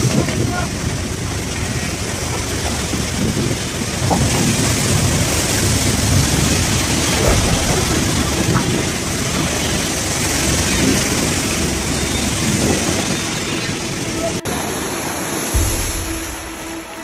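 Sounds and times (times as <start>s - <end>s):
boat engine rumbling: 0.0s - 17.0s
sea water churning: 0.0s - 17.0s.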